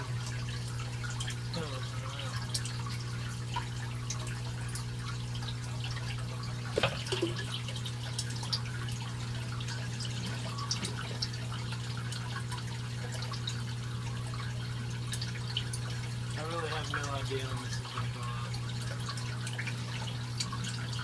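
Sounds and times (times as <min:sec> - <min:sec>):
drips and splashes: 0:00.0 - 0:21.0
water trickling into tank: 0:00.0 - 0:21.0.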